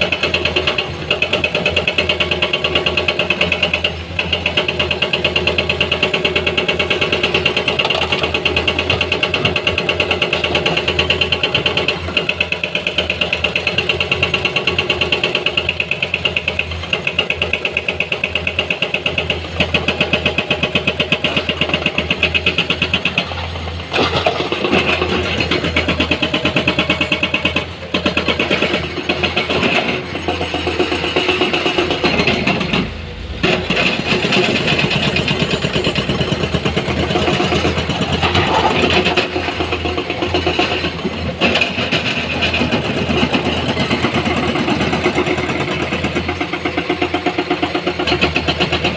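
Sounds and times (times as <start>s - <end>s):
heavy diesel machinery running: 0.0s - 48.9s.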